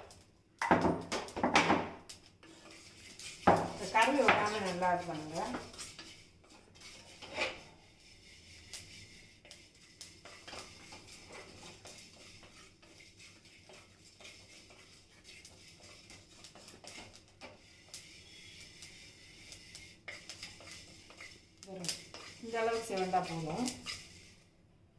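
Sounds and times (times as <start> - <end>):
seeds crackling in oil: 2.1 - 24.4
spoon scraping pan: 2.4 - 24.5.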